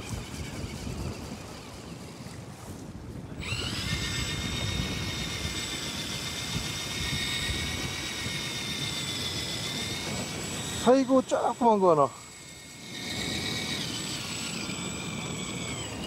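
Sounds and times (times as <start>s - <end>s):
electric fishing reel motor whining: 0.0s - 16.0s
wind and boat rumble: 0.0s - 16.0s.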